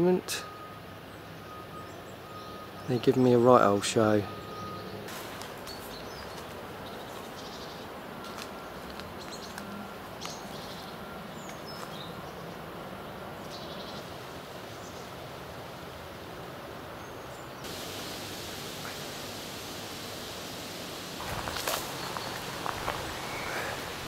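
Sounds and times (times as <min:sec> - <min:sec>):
birds chirping: 0:00.0 - 0:15.2, 0:16.2 - 0:24.0
steady outdoor hiss: 0:00.0 - 0:24.0.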